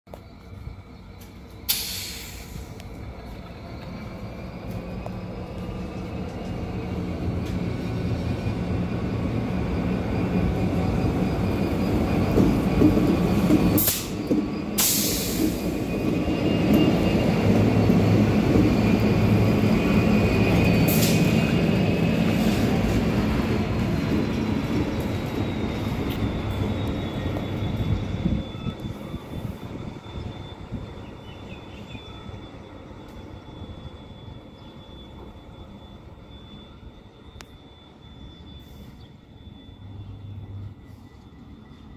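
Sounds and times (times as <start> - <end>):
diesel locomotive engine drone: 0.1 - 41.9
wheels squealing on track: 3.3 - 41.7.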